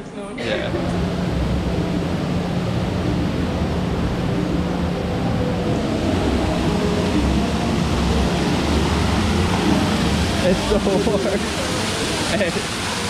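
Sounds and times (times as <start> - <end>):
low steady hum: 0.0 - 13.0
waterfall rushing: 0.4 - 13.0.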